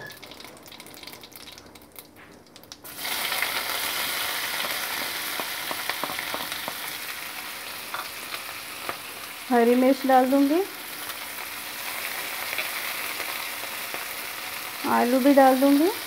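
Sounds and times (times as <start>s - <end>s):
seeds crackling in hot oil: 0.0s - 16.0s
onions sizzling in oil: 2.8s - 16.0s.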